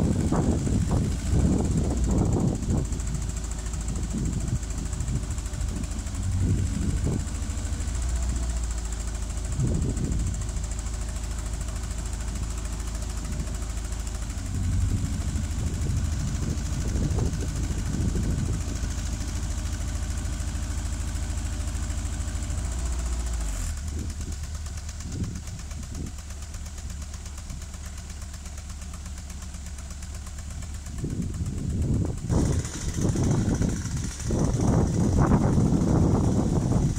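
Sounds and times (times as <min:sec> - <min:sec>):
boom lift engine running: 0:00.0 - 0:36.9.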